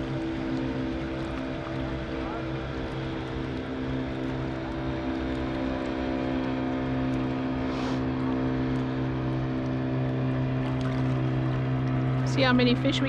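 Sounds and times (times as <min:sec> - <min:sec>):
motorboat engine drone: 0:00.0 - 0:13.0.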